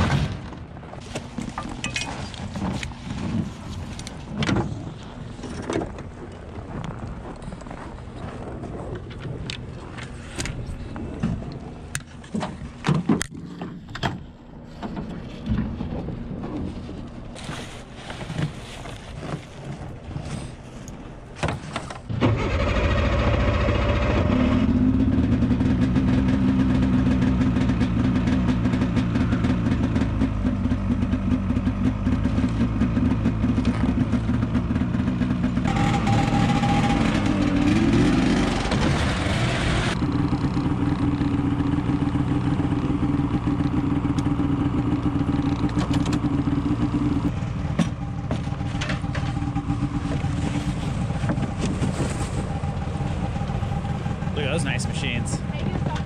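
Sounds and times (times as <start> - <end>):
snowmobile engine idling and revving: 0.0 - 12.9, 15.1 - 56.0.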